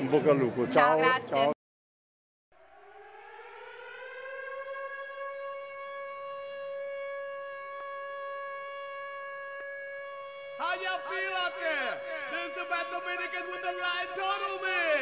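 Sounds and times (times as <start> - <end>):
siren-like rising tone: 2.5 - 15.0.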